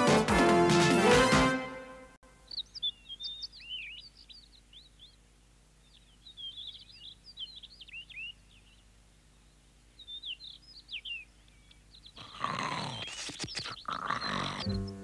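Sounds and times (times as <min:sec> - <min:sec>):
birds chirping: 0:02.4 - 0:15.0.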